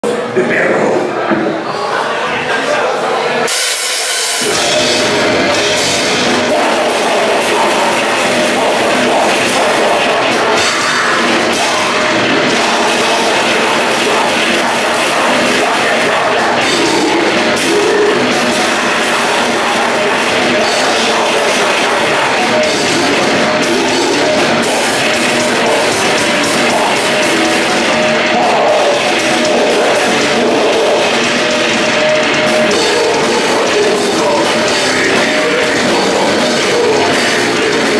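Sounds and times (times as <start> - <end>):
grindcore band playing: 0.3 - 37.9.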